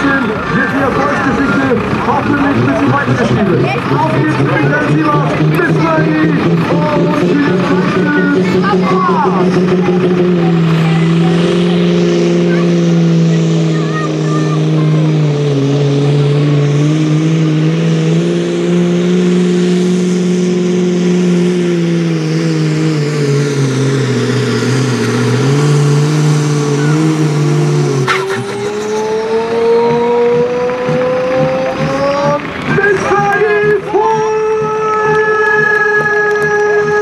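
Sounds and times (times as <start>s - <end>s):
diesel engine running under load: 0.0s - 37.0s.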